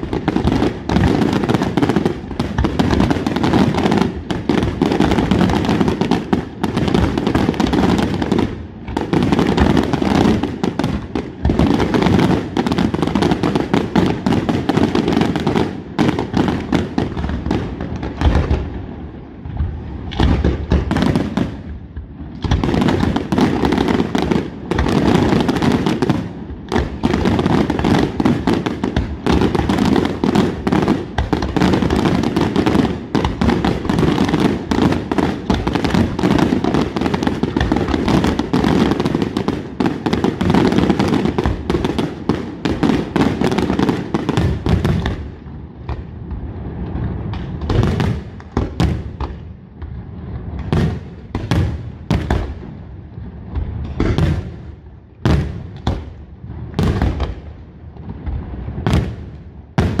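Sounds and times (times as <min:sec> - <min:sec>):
fireworks bursting: 0:00.0 - 1:00.0.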